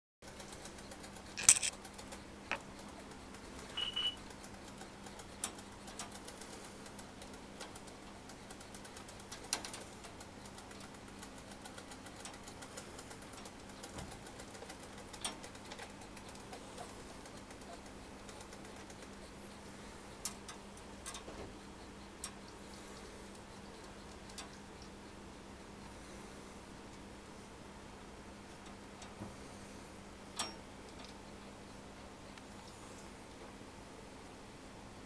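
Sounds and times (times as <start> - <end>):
faint steady hum: 0.3 - 35.0.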